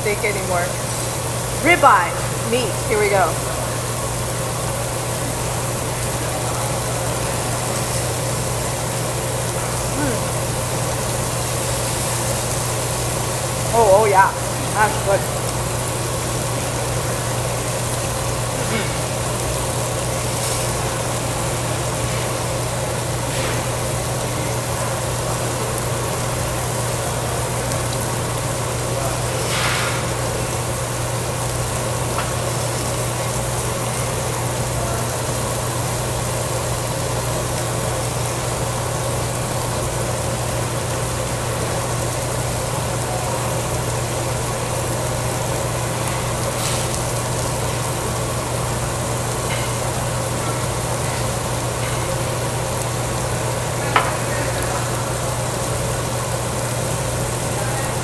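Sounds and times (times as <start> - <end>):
exhaust hood fan humming: 0.0 - 58.0.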